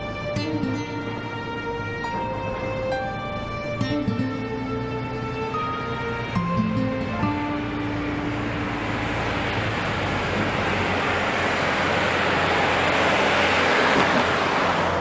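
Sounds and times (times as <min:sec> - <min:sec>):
car passing on highway: 0:00.0 - 0:15.0.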